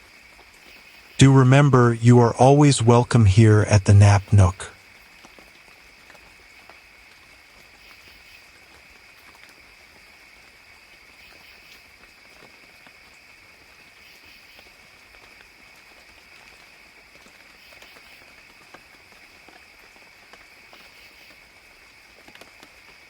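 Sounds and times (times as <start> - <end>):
high insect chorus: 0.0 - 1.2, 4.8 - 23.0.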